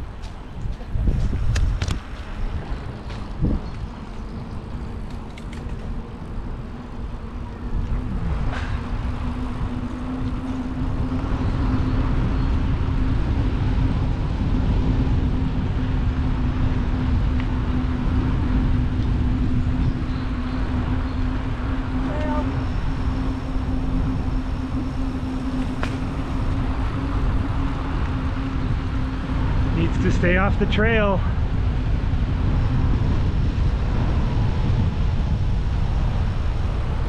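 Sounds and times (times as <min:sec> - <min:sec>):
steady hum: 0:00.0 - 0:37.0
wind rumbling on microphone: 0:00.0 - 0:37.0.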